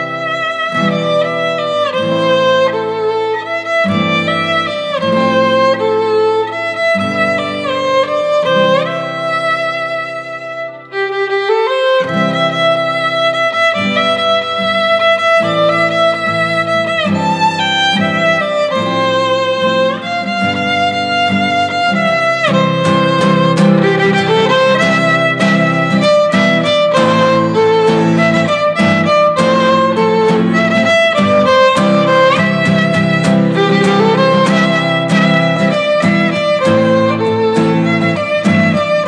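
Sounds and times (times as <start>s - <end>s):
acoustic guitar chords: 0.0s - 39.0s
violin melody: 0.0s - 39.0s.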